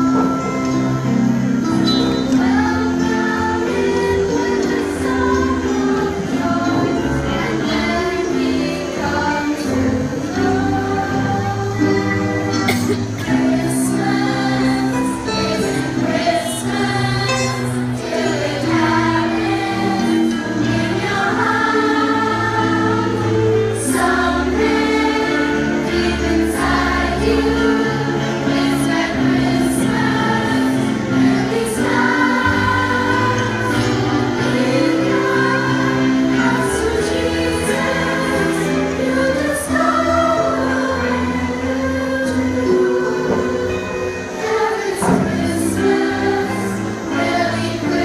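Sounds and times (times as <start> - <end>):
choir singing a carol: 0.0 - 48.0.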